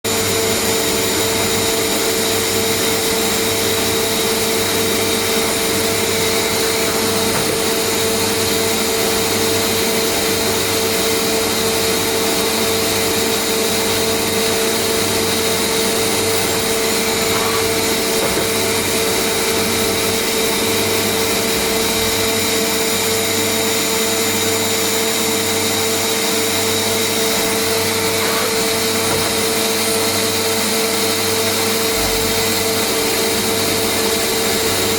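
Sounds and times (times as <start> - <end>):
machining centre whine and hum: 0.1 - 34.9.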